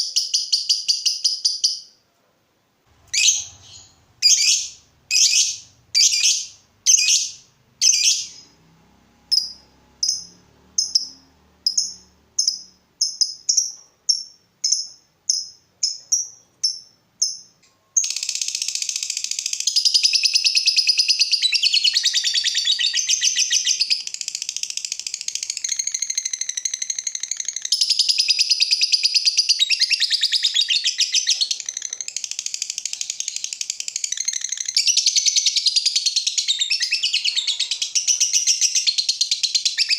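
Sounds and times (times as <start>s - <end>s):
lovebird chirping and singing: 3.0s - 8.6s, 9.3s - 17.4s, 18.0s - 39.9s.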